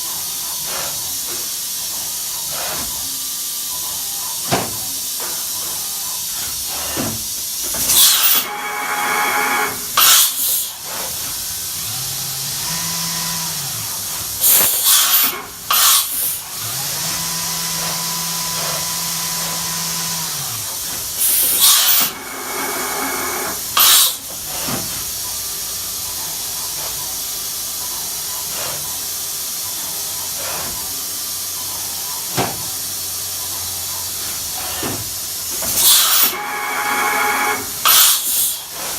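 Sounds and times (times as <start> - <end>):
steady machine hiss: 0.0 - 12.7, 13.3 - 17.0, 17.6 - 38.9.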